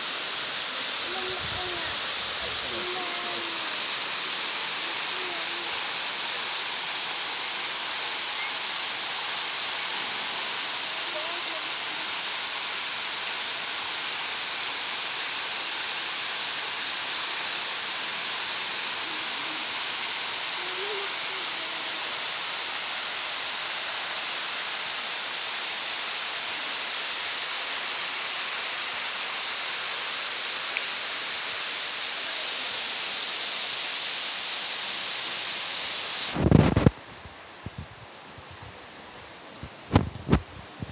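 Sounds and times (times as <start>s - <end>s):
waterfall rushing: 0.0s - 36.6s.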